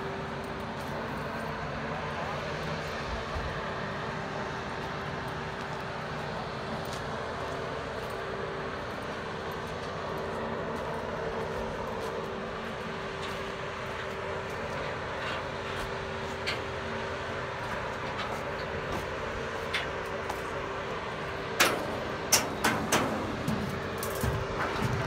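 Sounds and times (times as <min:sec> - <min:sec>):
machinery droning: 0:00.0 - 0:25.0.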